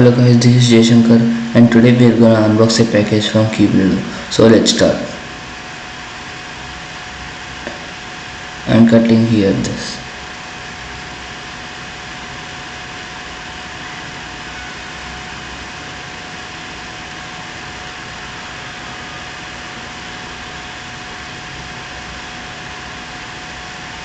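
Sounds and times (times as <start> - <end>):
faint hum tone: 0.0 - 24.0
steady background hiss: 0.0 - 24.0.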